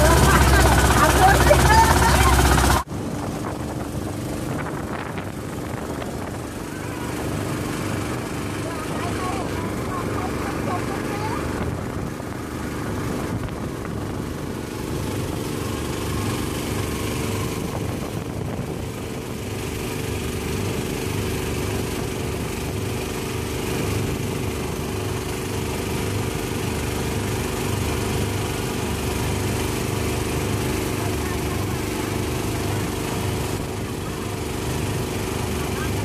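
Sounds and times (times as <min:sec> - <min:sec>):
boat engine drone: 0:00.0 - 0:36.0.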